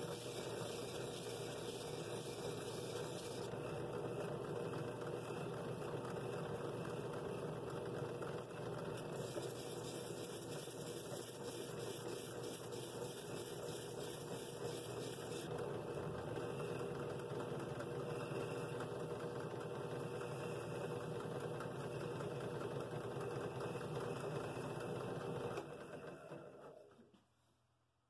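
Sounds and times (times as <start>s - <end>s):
drill press motor running: 0.0s - 27.0s.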